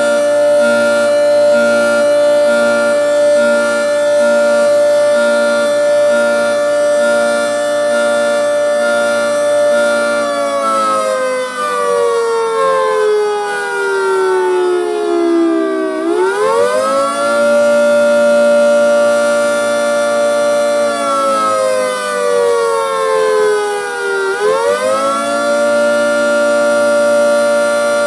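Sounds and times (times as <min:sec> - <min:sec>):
tornado siren wailing: 0:00.0 - 0:28.0.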